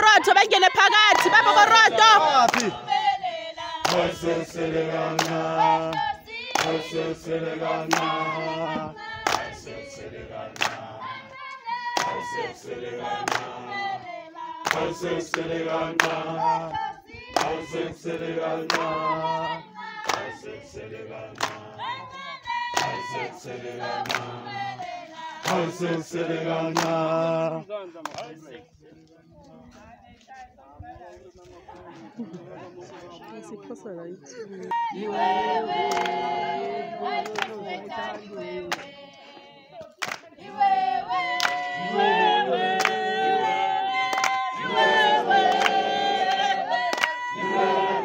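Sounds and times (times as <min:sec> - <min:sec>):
single leading voice singing: 0:00.0 - 0:28.5, 0:34.5 - 0:48.0
group singing in harmony: 0:00.0 - 0:28.8, 0:34.3 - 0:48.0.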